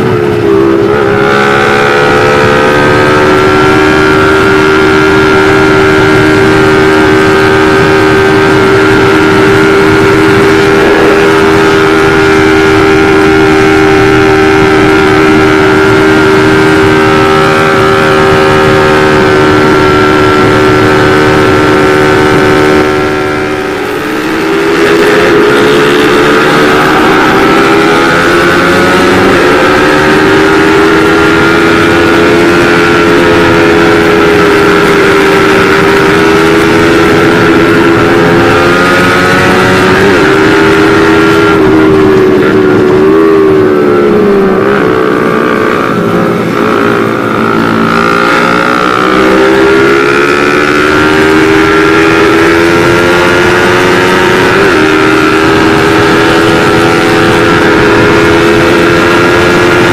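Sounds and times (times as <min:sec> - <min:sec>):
motorcycle engine revving: 0:00.0 - 0:59.9
wind rush: 0:07.1 - 0:59.9.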